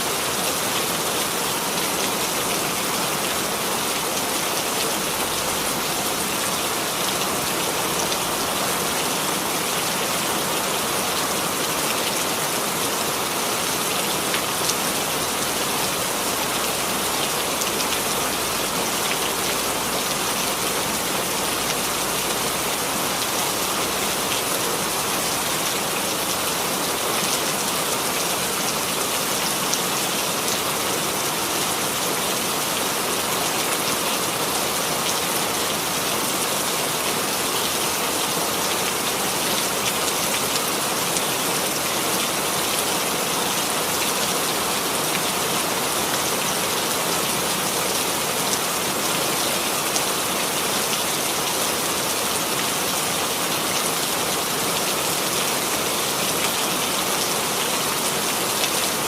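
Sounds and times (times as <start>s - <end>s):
rain pattering: 0.2s - 59.0s.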